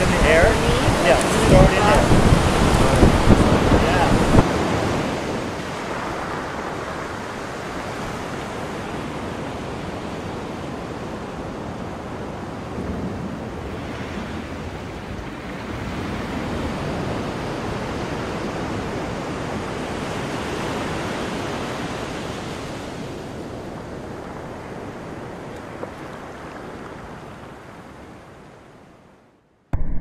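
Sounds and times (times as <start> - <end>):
ocean surf washing: 0.0 - 29.2.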